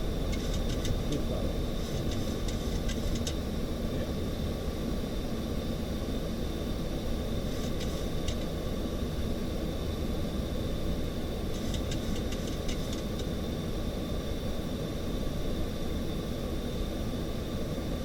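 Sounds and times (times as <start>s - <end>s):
aircraft engine and airflow rumble: 0.0s - 18.0s
faint high whine: 0.0s - 18.0s.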